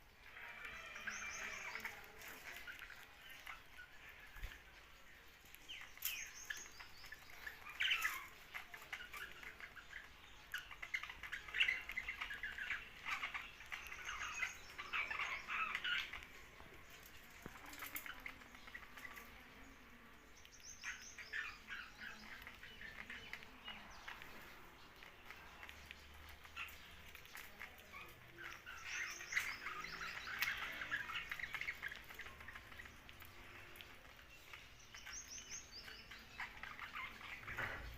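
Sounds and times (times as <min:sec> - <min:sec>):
young budgerigars chirping: 0:00.2 - 0:37.9.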